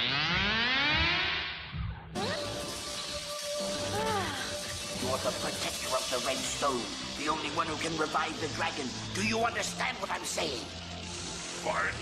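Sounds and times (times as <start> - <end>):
dramatic background score: 0.4 - 12.0.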